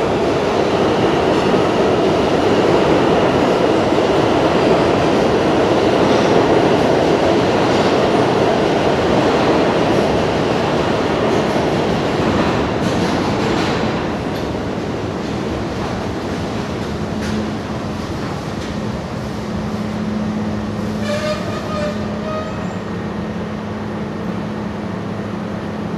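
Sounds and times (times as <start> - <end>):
subway train wheels rumbling on rail: 0.0 - 25.9.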